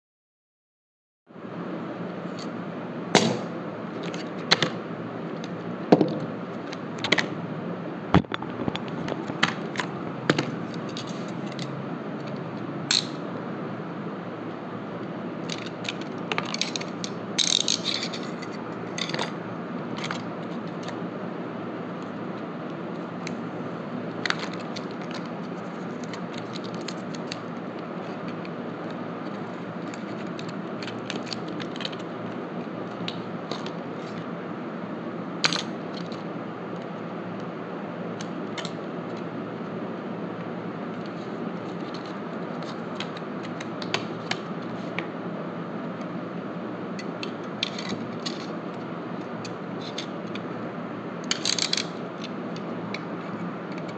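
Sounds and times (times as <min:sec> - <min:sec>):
steady background noise: 0:01.3 - 0:53.9.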